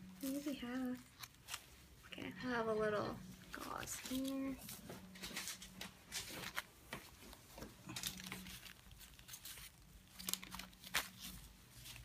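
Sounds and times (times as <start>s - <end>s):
gauze rustling on paper: 0.0s - 2.2s, 3.2s - 12.0s.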